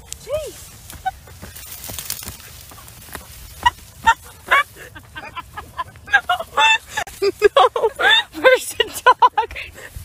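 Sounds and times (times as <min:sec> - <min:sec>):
garden plants rustling: 0:00.0 - 0:10.0.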